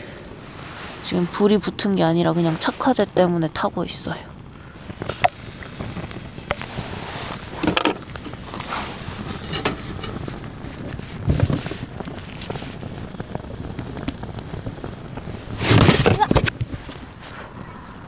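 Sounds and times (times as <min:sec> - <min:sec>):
faint fire crackles: 0:00.0 - 0:18.0
flames burning: 0:00.0 - 0:18.0
wind rumbling on microphone: 0:00.0 - 0:18.0.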